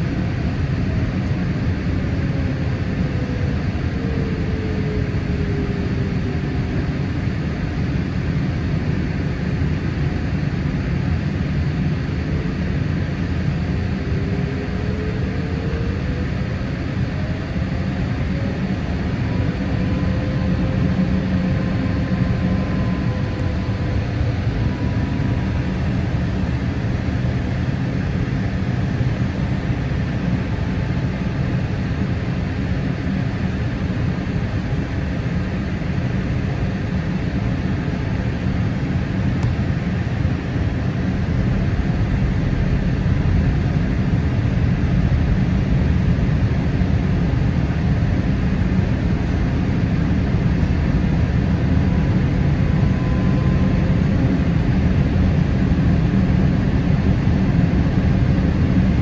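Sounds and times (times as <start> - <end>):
low engine drone: 0.0 - 59.0
rush of airflow in cabin: 0.0 - 59.0.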